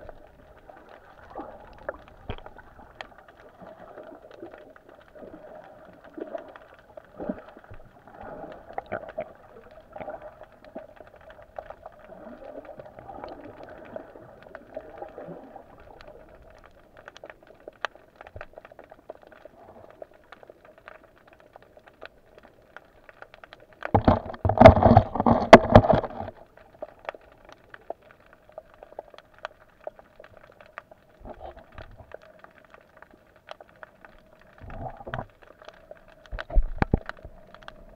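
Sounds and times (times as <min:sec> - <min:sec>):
light crackling: 0:00.0 - 0:37.9.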